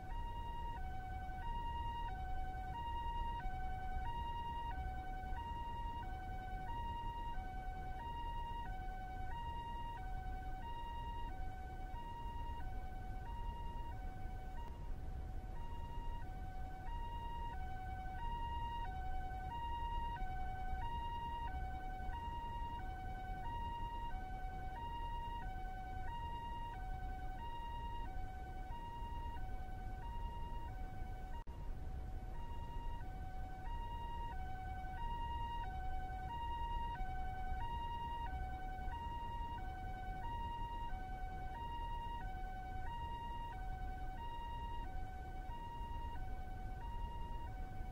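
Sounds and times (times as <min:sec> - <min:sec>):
low steady rumble: 0:00.0 - 0:47.9
two-tone ambulance siren: 0:00.0 - 0:47.9.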